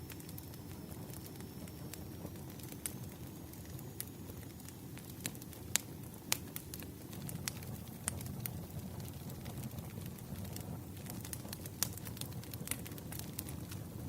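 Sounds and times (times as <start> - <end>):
bonfire crackling: 0.0 - 14.0
burning wood popping: 0.0 - 14.0.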